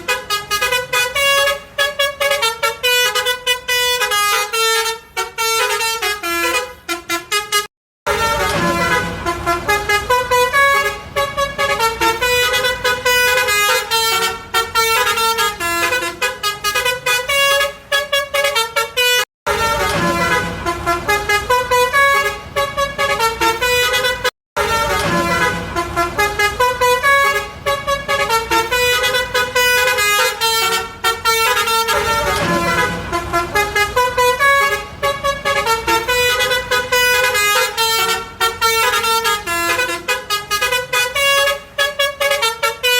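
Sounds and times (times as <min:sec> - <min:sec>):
bus musical horn tooting melody: 0:00.0 - 0:42.9.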